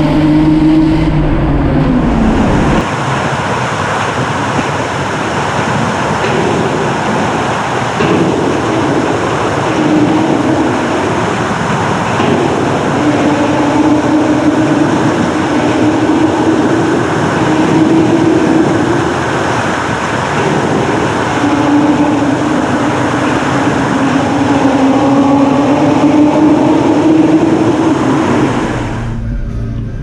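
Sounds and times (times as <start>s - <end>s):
car engine droning at cruise: 0.0s - 30.0s
road and wind noise: 0.0s - 30.0s.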